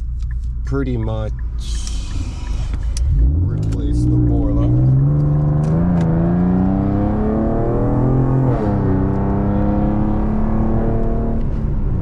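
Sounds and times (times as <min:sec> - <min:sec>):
engine note climbing: 0:00.0 - 0:11.9
car exhaust accelerating: 0:00.0 - 0:12.0.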